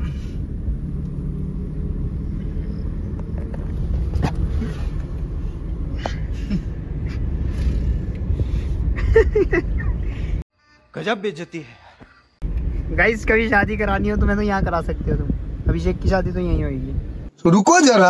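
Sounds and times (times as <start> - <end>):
car engine and road rumble: 0.0 - 10.5, 12.4 - 17.4.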